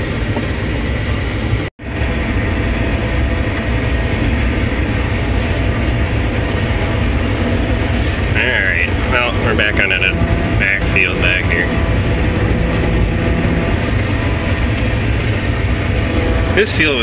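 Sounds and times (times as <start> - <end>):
tractor engine and hay chopper drone: 0.0 - 17.0.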